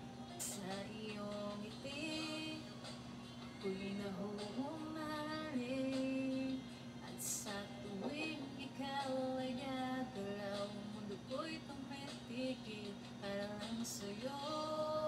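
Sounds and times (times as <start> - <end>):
karaoke backing track: 0.0 - 15.0
woman singing into a microphone: 0.4 - 2.7, 3.6 - 15.0.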